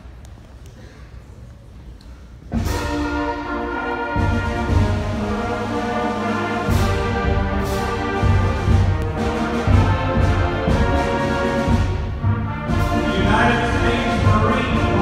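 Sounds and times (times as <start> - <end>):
murmur in a hall: 0.0 - 15.0
brass chords: 2.5 - 15.0
heavy low bass line: 2.5 - 15.0.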